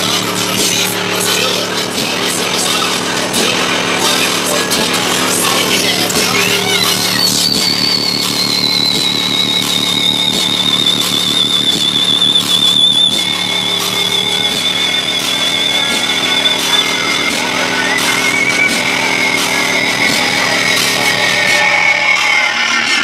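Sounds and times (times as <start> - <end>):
high wavering whine: 0.0 - 23.0
loud buzzy subwoofer bass: 0.0 - 23.0.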